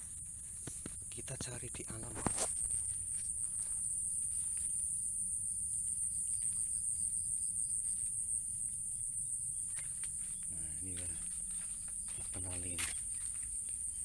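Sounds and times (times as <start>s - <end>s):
faint pulsing insect trill: 0.0s - 14.0s
insects trilling: 0.0s - 14.0s.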